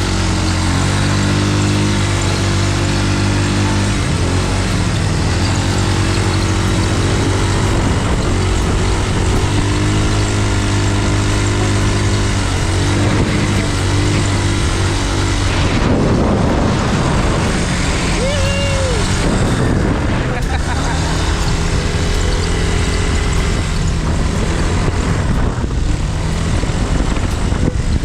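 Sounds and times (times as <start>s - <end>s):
rush of noise: 0.0s - 28.0s
vehicle engine running under load: 0.0s - 28.0s.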